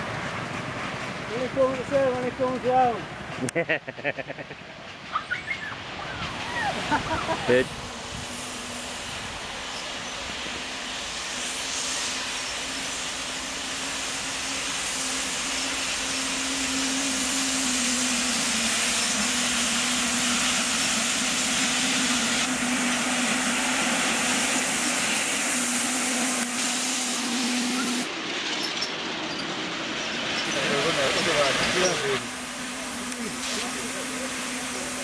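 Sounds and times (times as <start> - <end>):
steam locomotive hissing: 0.0 - 35.0.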